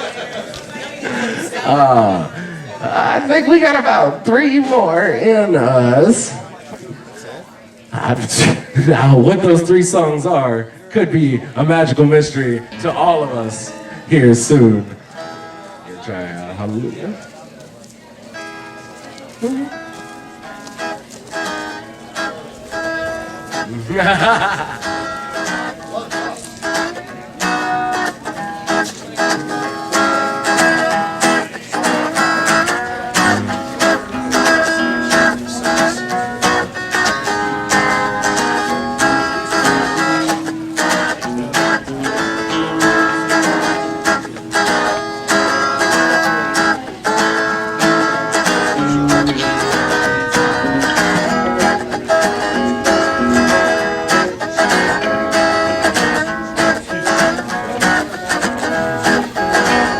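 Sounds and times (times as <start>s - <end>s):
acoustic guitar strumming: 0.0s - 6.7s, 7.6s - 17.0s, 18.0s - 59.9s.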